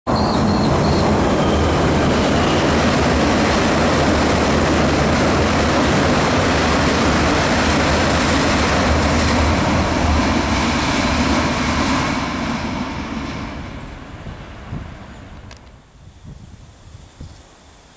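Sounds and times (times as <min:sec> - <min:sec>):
train wheels rumbling on rails: 0:00.1 - 0:17.3
train diesel engines humming: 0:00.1 - 0:17.9.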